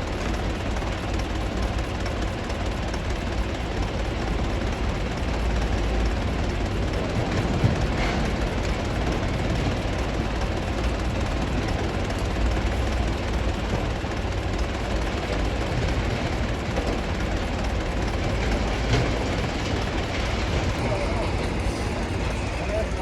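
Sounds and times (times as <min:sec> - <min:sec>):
heavy machinery running: 0:00.0 - 0:23.0.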